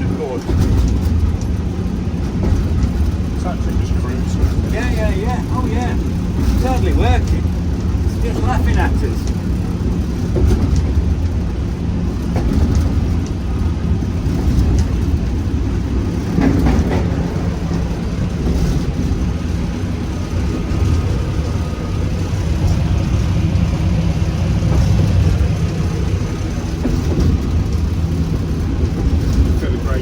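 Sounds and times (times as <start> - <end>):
diesel locomotive engine running: 0.0 - 30.0
train rumbling on track: 0.0 - 30.0.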